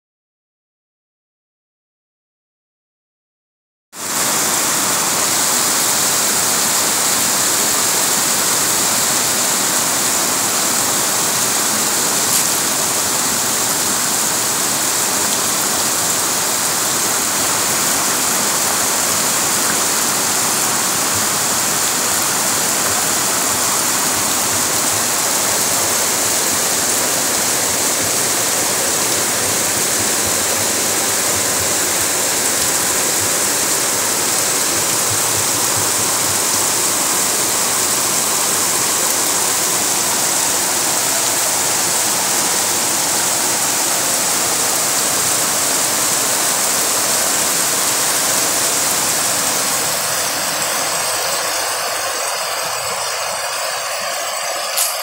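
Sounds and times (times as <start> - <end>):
heavy rain pouring: 3.9 - 55.0
runoff water rushing: 4.0 - 55.0.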